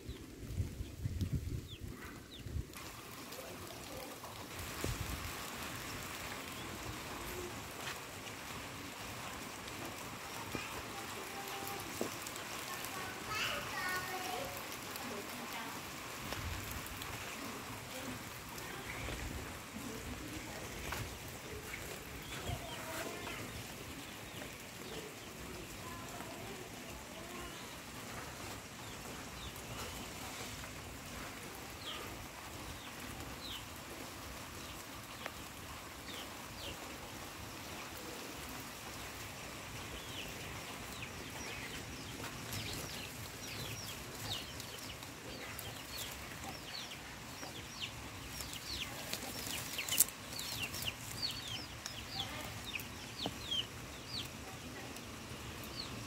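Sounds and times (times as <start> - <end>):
birds chirping: 0.0 - 56.0
steady hiss: 0.0 - 56.0.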